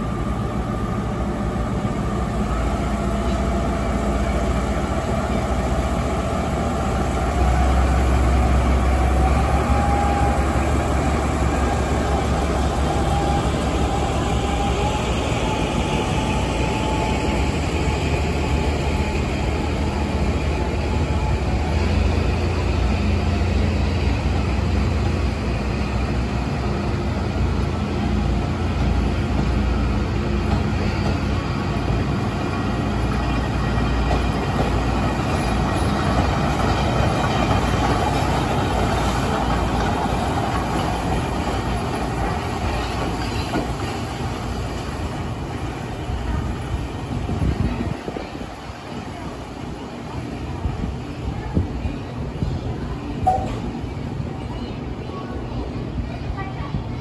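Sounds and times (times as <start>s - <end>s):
diesel locomotive engine rumble: 0.0s - 57.0s
train wheels on rails: 0.0s - 57.0s.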